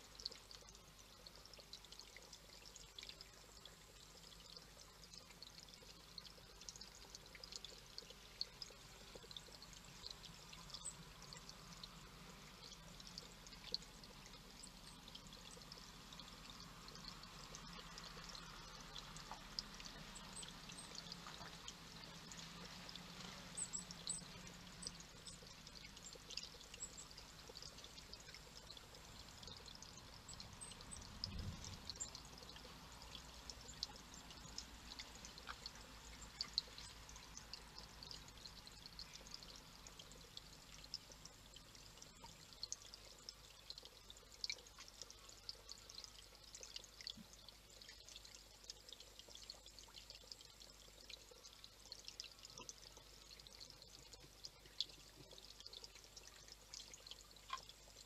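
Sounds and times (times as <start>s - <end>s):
fountain trickling: 0.0s - 58.0s
water splashes and drips: 0.0s - 58.0s.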